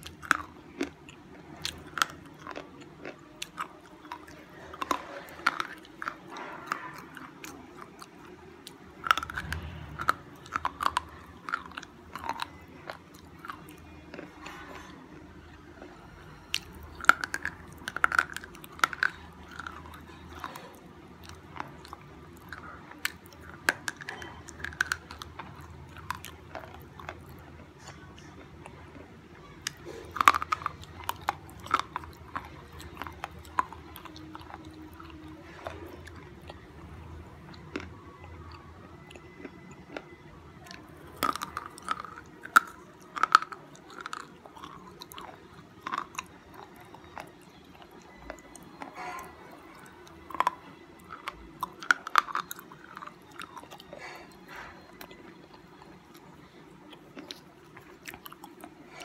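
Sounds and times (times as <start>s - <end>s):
gritty chewing: 0.0s - 59.0s.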